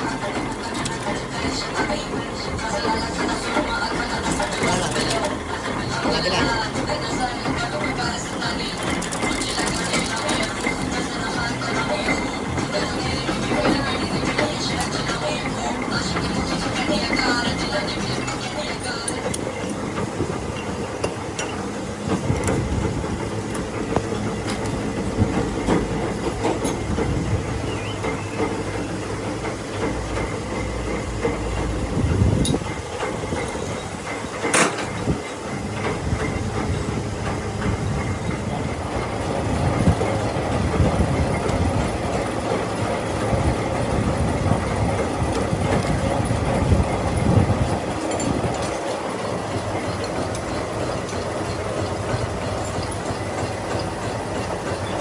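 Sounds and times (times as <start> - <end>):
milling machine clattering: 0.0 - 55.0.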